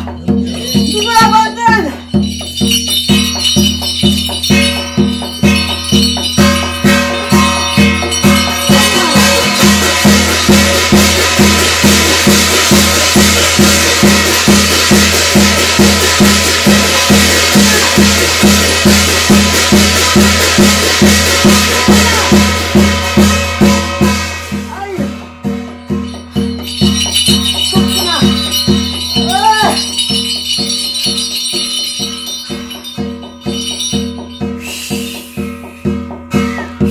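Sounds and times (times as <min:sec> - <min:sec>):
jangling rattles: 0:00.0 - 0:24.4, 0:25.4 - 0:35.6
drum beat: 0:00.0 - 0:36.9
shimmering cymbal crash: 0:02.0 - 0:36.9.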